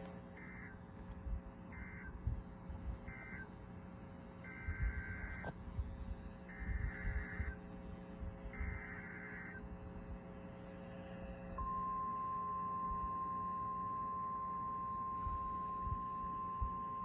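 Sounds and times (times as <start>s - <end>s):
faint hum: 0.0s - 17.0s
low steady tone: 0.0s - 17.0s
high warning alarm tone: 0.3s - 3.7s, 4.3s - 5.5s, 6.2s - 17.0s.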